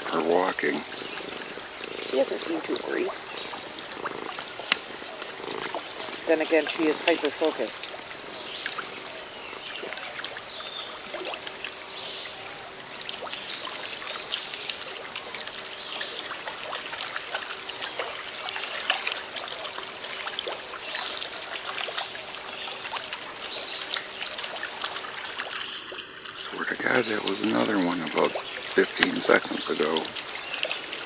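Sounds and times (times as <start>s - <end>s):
river water trickling: 0.0s - 31.0s
small clicks and drips: 0.5s - 26.6s, 27.4s - 31.0s.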